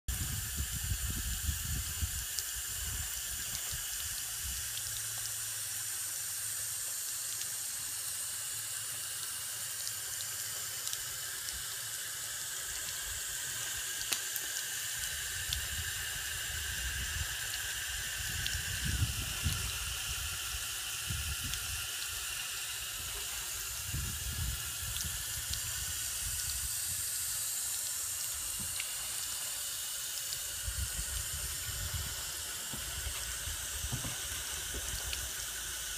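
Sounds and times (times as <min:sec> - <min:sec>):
hose spray splashing: 0:00.1 - 0:35.9.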